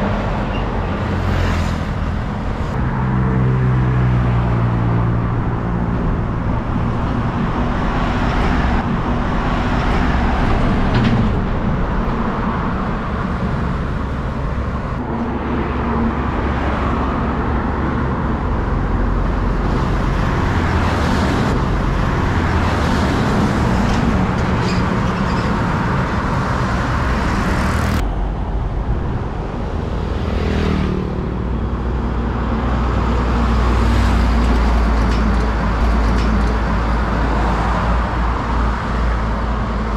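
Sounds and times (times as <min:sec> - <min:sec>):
highway traffic passing: 0:00.0 - 0:39.9
truck engine rumbling: 0:00.0 - 0:39.9.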